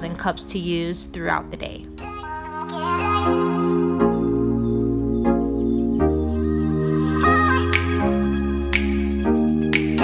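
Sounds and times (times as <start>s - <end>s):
held chords background music: 0.0s - 10.0s.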